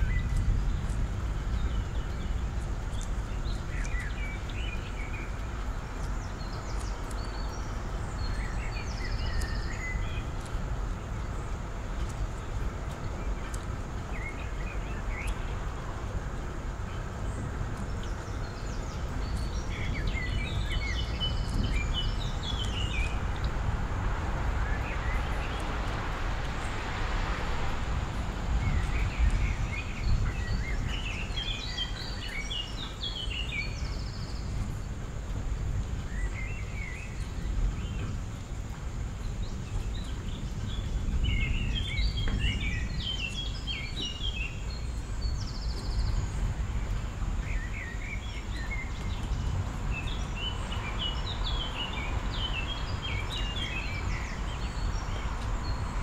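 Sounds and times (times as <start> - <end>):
small birds twittering: 0.0 - 56.0
steady low rumble: 0.0 - 56.0.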